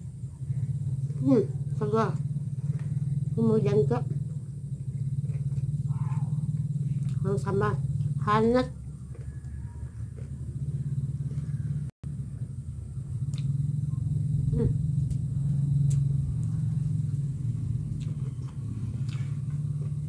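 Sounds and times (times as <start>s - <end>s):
motor running low rumble: 0.0s - 20.0s.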